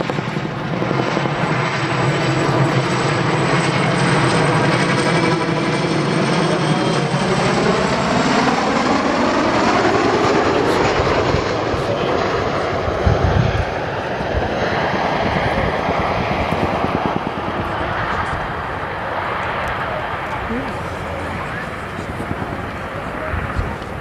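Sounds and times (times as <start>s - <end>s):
helicopter flying past: 0.0s - 24.0s.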